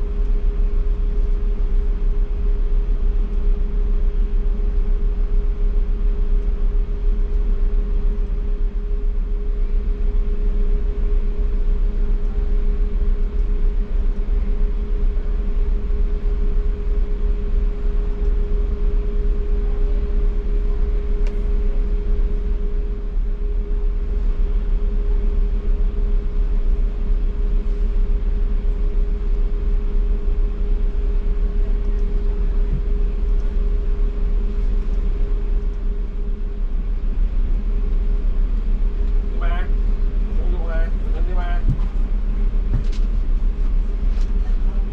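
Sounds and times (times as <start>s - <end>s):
engine droning: 0.0s - 44.9s.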